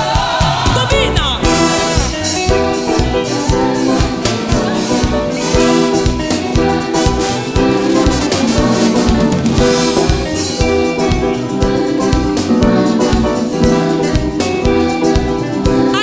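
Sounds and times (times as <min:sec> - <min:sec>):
drum kit steady beat: 0:00.0 - 0:16.0
band playing sustained chords: 0:01.5 - 0:15.9.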